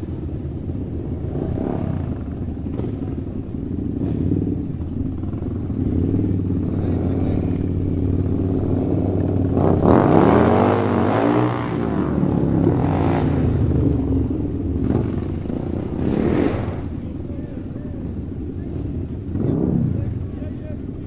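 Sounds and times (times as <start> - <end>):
motorcycle engine revving: 0.0 - 21.0
motorcycle engines running: 0.0 - 21.0.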